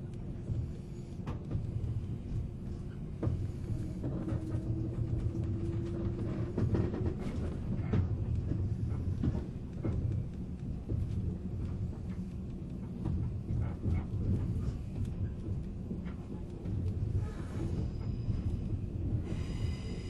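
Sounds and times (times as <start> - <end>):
train interior low rumble: 0.0 - 20.0.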